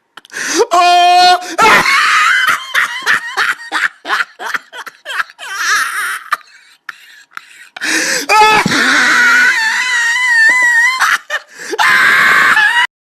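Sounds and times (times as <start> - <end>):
person laughing: 1.5 - 12.8.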